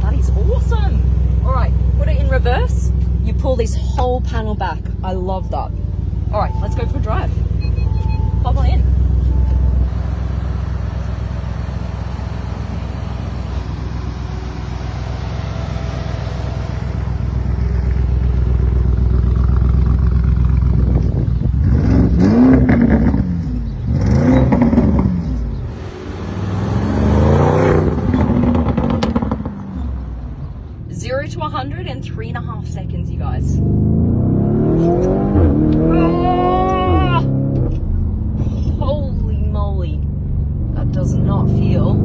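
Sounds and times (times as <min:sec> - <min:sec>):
car engine rumbling and revving: 0:00.0 - 0:42.0.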